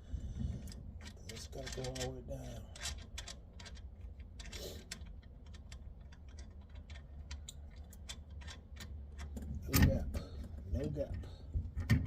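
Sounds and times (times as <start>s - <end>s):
steady low rumble: 0.0s - 12.0s
metal parts clicking and tapping: 0.6s - 12.0s.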